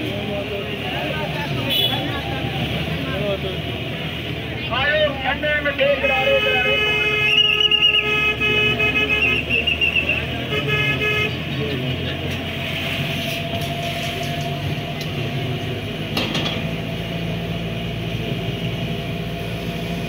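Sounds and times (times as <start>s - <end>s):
road traffic engine rumble: 0.0s - 20.0s.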